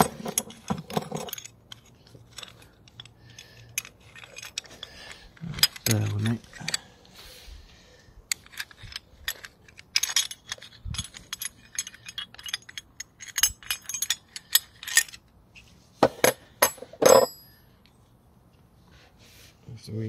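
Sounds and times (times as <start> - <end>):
metal tools clinking: 0.0 - 7.2, 8.3 - 17.6.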